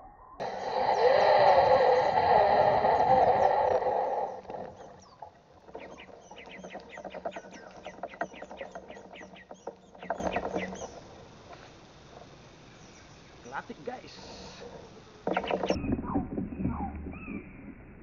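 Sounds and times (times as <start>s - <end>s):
songbirds chirping: 0.0s - 17.8s
loud buzzing: 0.4s - 16.0s.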